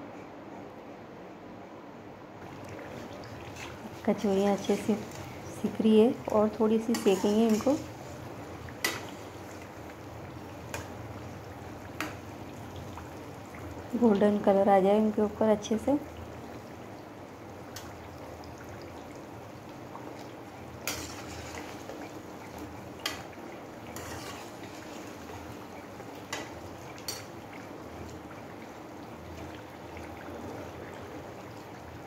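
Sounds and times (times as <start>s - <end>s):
deep-frying sizzle in hot oil: 2.8s - 32.0s.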